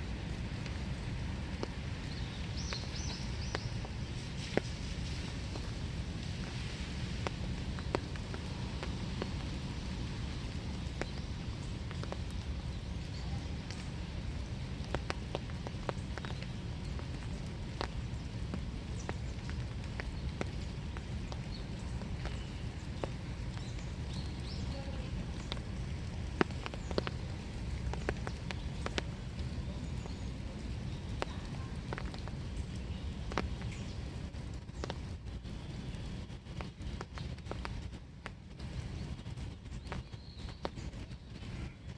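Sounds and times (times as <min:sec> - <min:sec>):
raindrops ticking on surfaces: 0:00.0 - 0:41.9
steady rain hiss: 0:00.0 - 0:41.9
drips tapping close by: 0:01.4 - 0:35.5.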